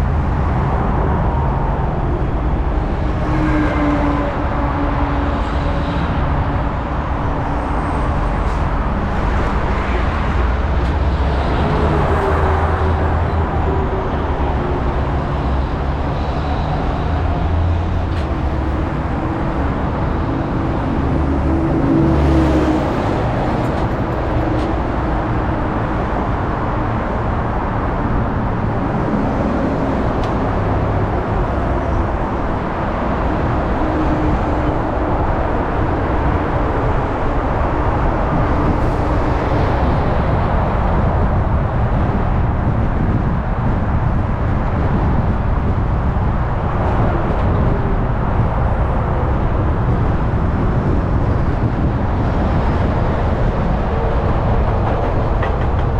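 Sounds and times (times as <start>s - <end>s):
tyre and road noise: 0.0s - 55.9s.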